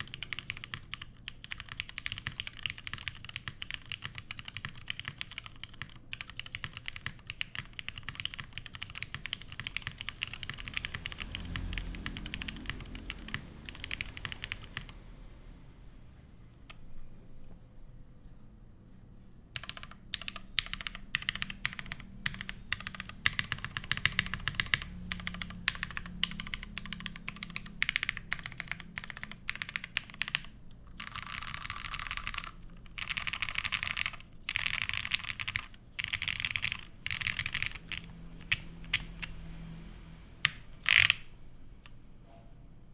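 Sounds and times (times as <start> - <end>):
typing on mechanical keyboard: 0.0 - 15.0, 19.6 - 39.4, 40.4 - 41.3.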